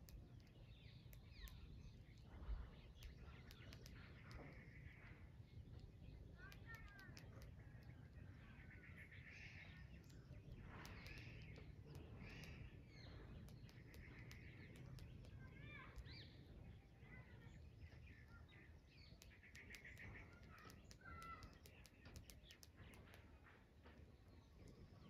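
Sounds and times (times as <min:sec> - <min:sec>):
low steady background rumble: 0:00.0 - 0:25.0
wild birds chirping: 0:00.0 - 0:25.0.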